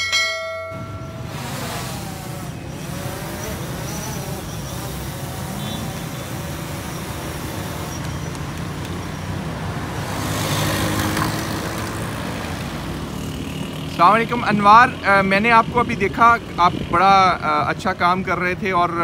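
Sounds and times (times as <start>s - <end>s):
road traffic passing: 0.0s - 19.0s
drone propellers buzzing: 0.7s - 16.9s.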